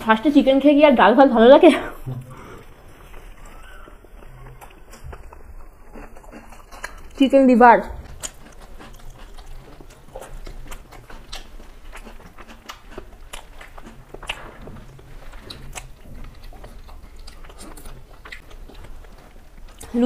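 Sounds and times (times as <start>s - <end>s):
people chewing: 1.6s - 20.0s.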